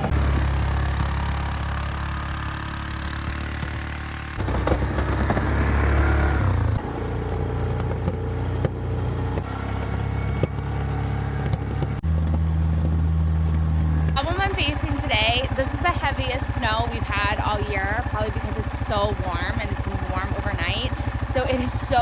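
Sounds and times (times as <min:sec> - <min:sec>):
plow pushing wet snow: 0:00.0 - 0:22.0
quad bike engine under load: 0:00.0 - 0:22.0.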